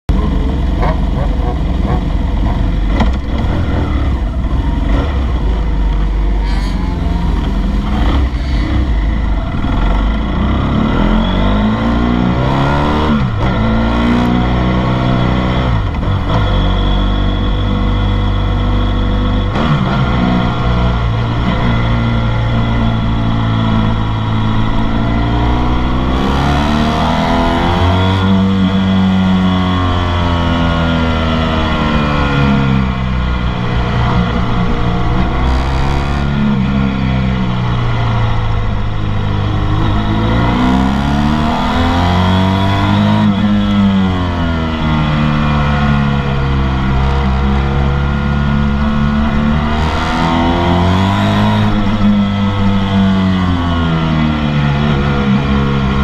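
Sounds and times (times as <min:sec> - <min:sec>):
motorcycle engine accelerating: 0:00.1 - 0:56.0.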